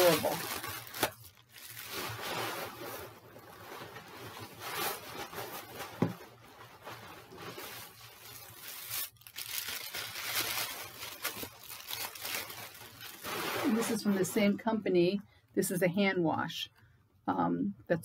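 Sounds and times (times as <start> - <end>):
tissue paper rustling: 0.0 - 14.5.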